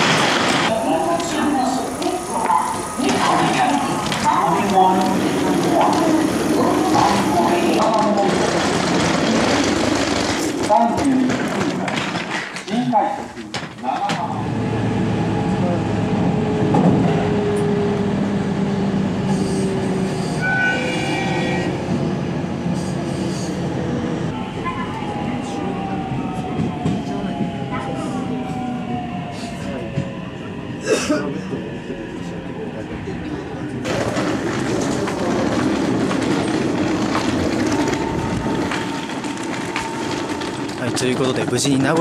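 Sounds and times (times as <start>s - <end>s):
train motor hum and rail noise: 0.0s - 42.0s.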